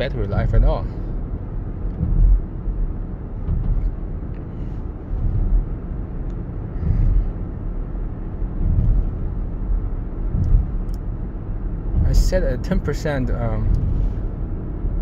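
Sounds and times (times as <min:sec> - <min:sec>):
road and tyre noise in car cabin: 0:00.0 - 0:15.0.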